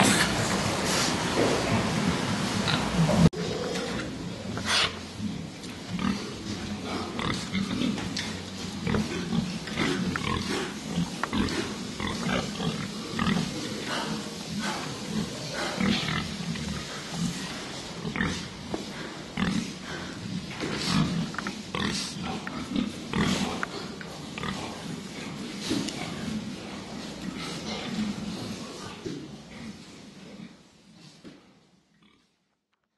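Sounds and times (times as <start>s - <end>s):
pigs grunting: 0.0s - 30.6s.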